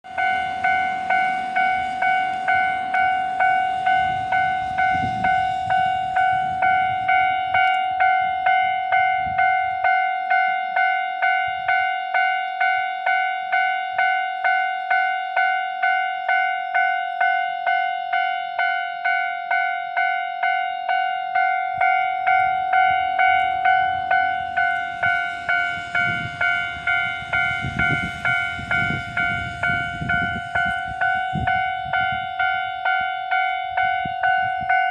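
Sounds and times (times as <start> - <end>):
level crossing electronic bell: 0.1 - 34.9.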